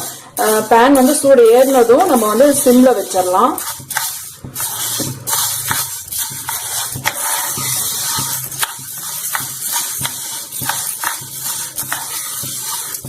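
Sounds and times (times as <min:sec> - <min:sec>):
grains rattling in a hot pan: 0:00.0 - 0:13.0.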